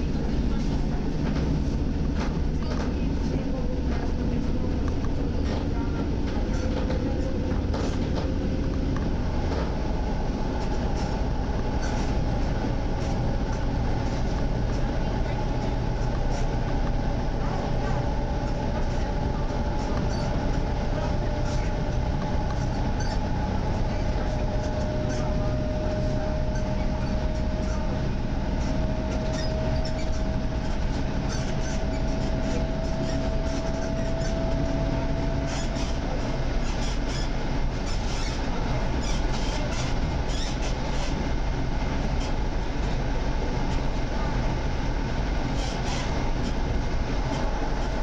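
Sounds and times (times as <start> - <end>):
wheels rumbling on rail: 0.0 - 48.0.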